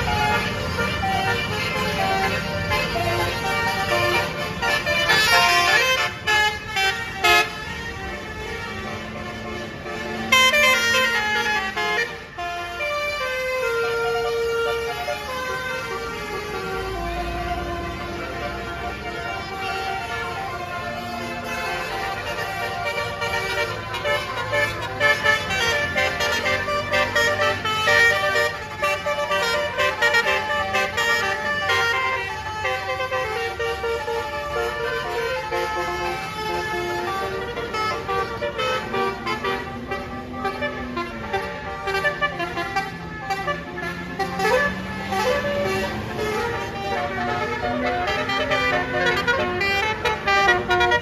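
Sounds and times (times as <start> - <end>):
bus engine running: 0.0 - 51.0
musical air horn melody: 0.0 - 51.0.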